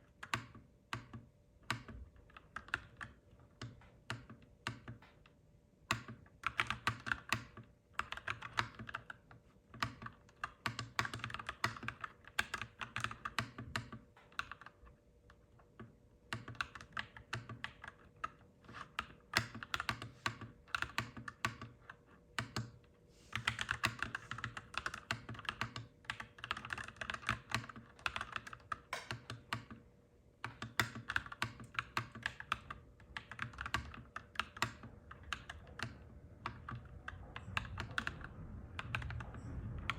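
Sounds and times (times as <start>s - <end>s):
mechanical keyboard typing: 0.1s - 5.3s, 5.9s - 14.9s, 15.8s - 39.9s.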